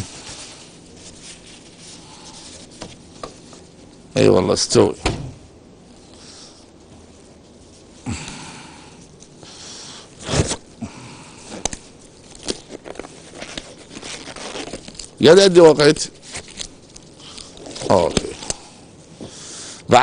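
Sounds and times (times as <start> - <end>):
disposable gloves rustling: 0.0 - 5.0, 5.8 - 19.6.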